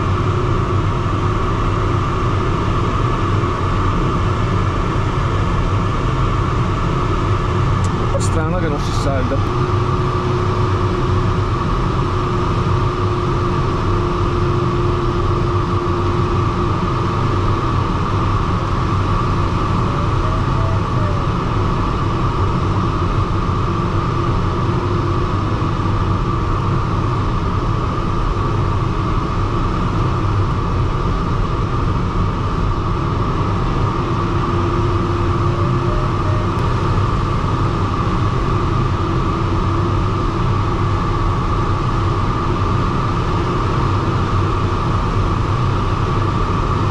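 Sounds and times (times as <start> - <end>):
air rushing around cockpit: 0.0 - 46.9.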